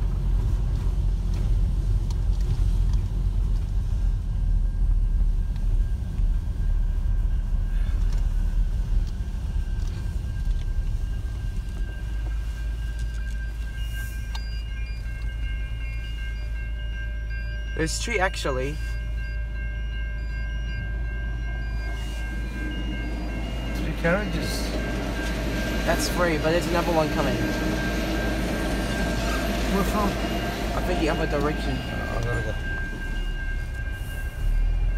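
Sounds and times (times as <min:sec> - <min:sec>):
car engine and road noise: 0:00.0 - 0:18.6, 0:19.2 - 0:34.9
level crossing warning bells: 0:00.0 - 0:34.9.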